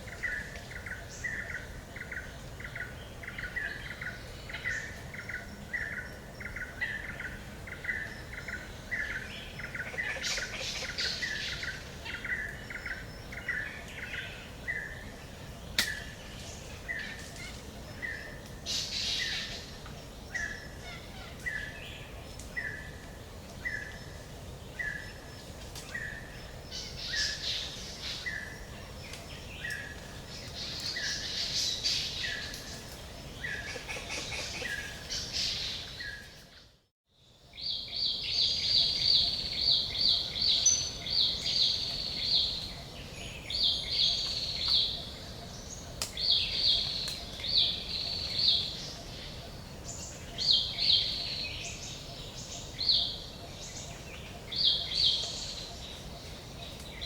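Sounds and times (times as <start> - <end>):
songbirds singing and calling: 0.0 - 57.0
steady background hiss: 0.0 - 57.0.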